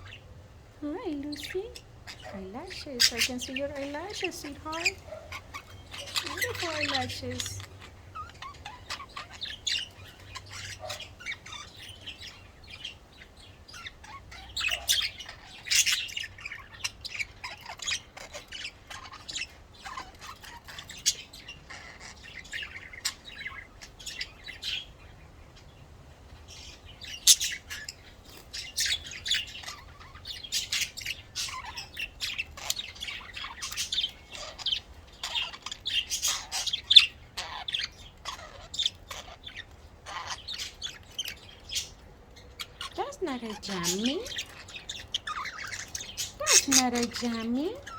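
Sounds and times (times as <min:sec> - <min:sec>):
budgerigars chirping: 0:00.0 - 0:47.9.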